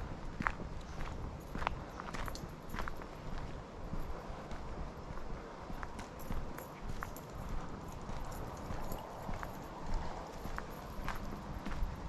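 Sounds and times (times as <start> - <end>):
footsteps crunching on path: 0.0 - 12.0
steady low rumble: 0.0 - 12.0.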